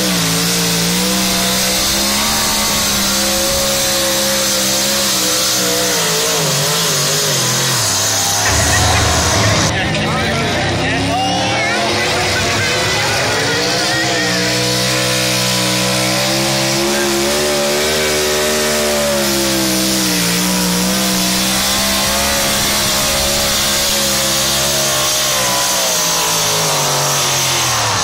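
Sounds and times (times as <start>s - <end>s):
engine revving under load: 0.0s - 28.0s.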